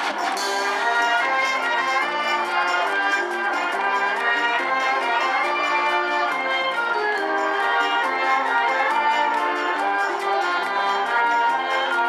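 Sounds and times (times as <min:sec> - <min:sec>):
brass melody: 0:00.0 - 0:12.0
percussion beat: 0:00.0 - 0:12.0
wind band playing: 0:00.0 - 0:12.0.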